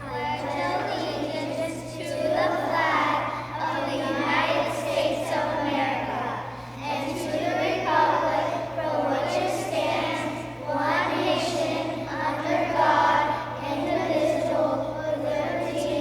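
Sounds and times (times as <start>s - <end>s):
children reciting in unison: 0.0s - 16.0s
low electrical hum: 0.0s - 16.0s.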